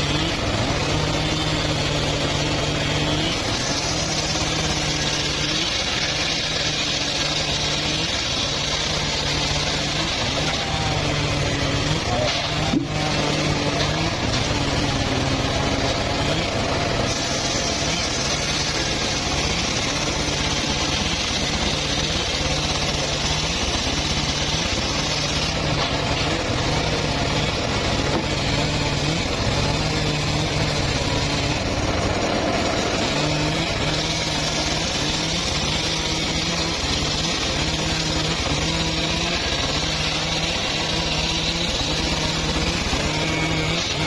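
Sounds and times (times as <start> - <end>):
engine drone: 0.0 - 44.0
saw cutting wood hiss: 0.0 - 44.0.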